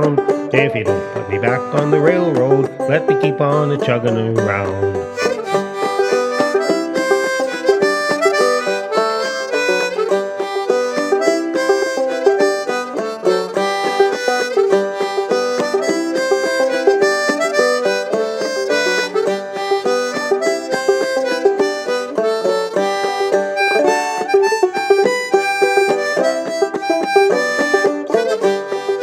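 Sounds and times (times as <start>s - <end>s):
banjo picking: 0.0s - 29.0s
harmonica melody: 0.0s - 29.0s.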